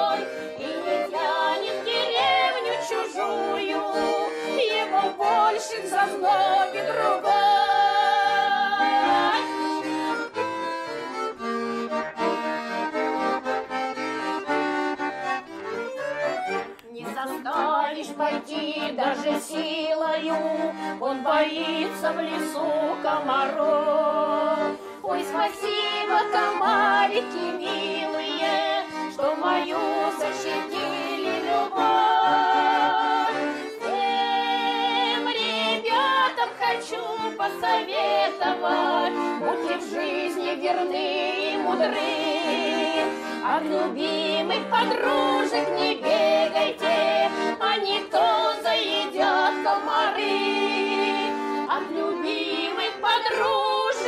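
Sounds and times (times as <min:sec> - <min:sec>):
female vocal duet singing: 0:00.0 - 0:09.6, 0:16.9 - 0:54.0
accordion playing folk tune: 0:00.0 - 0:54.0.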